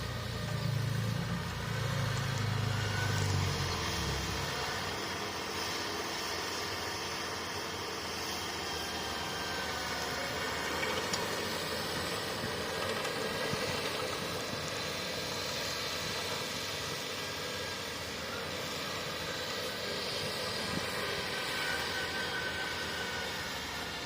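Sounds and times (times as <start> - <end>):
bulldozer diesel engine droning: 0.0 - 24.0.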